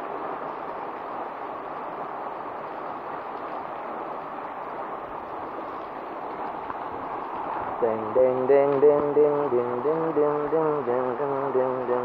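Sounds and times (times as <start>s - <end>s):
heavy rain muffled: 0.0s - 12.0s.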